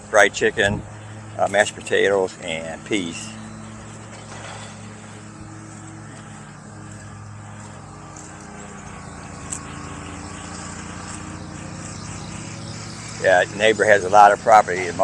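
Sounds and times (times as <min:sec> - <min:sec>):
lawn mower engine drone: 0:00.0 - 0:15.0.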